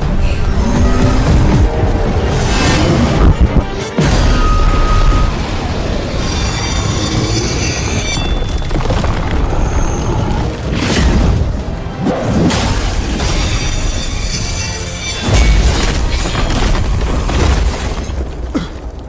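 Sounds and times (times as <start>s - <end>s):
dramatic film score: 0.0s - 19.0s.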